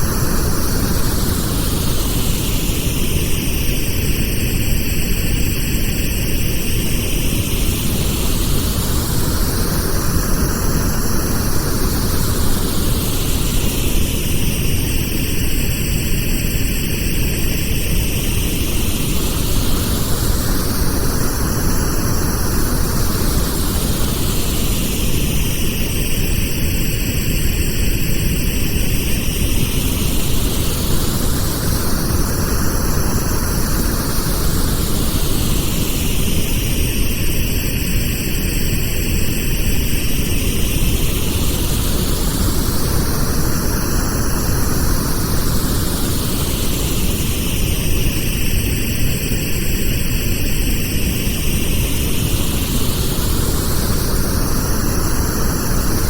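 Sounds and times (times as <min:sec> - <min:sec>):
pink noise hiss with sweep: 0:00.0 - 0:56.0.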